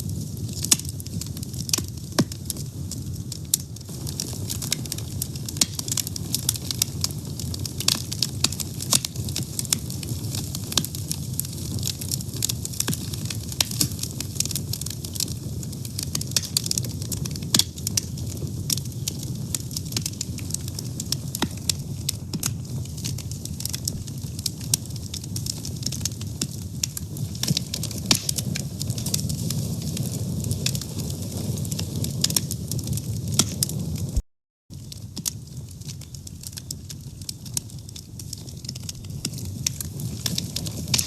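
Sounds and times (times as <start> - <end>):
fire crackling and popping: 0.0 - 41.0.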